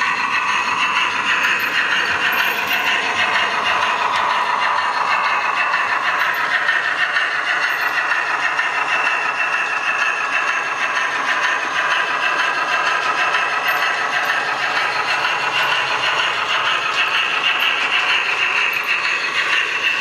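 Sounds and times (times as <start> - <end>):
wheels rattling on rails: 0.0 - 20.0.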